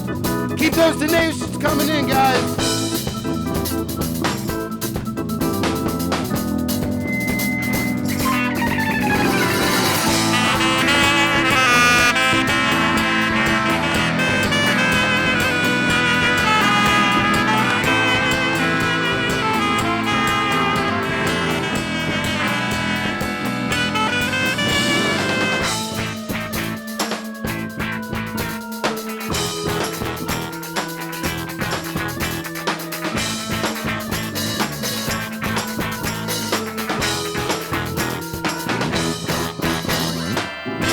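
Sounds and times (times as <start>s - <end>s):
drums: 0.0s - 40.9s
guitar: 0.0s - 40.9s
lead melody line: 0.0s - 40.9s.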